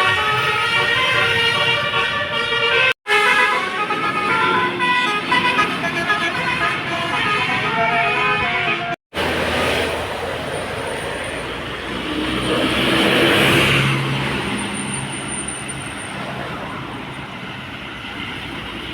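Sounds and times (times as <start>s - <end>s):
road vehicle passing: 3.5s - 18.9s.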